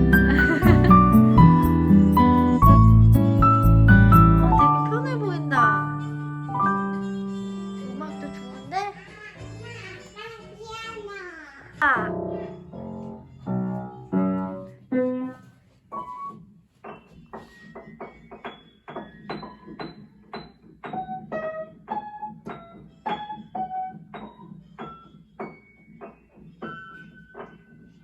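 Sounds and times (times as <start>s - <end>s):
piano music: 0.0s - 11.1s, 11.7s - 28.0s.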